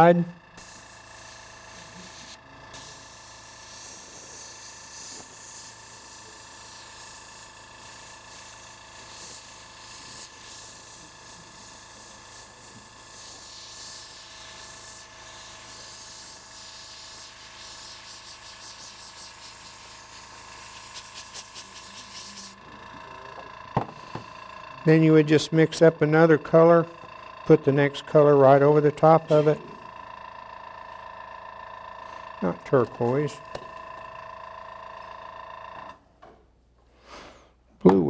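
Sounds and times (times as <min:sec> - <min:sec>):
airbrush hissing: 0:00.0 - 0:35.9.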